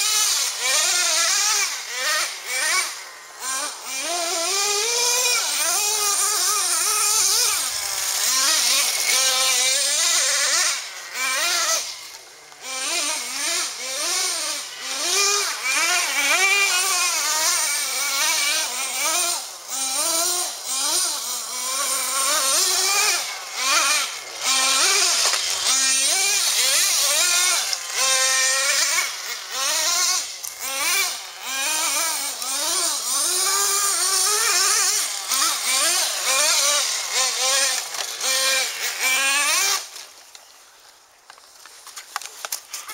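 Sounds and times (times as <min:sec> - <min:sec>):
model truck engine revving: 0:00.0 - 0:40.5.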